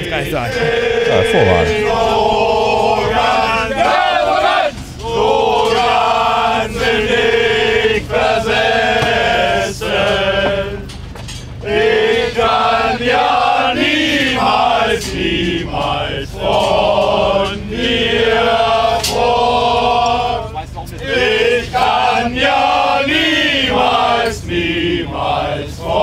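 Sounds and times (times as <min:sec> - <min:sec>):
men singing in unison: 0:00.0 - 0:11.0, 0:11.6 - 0:26.0.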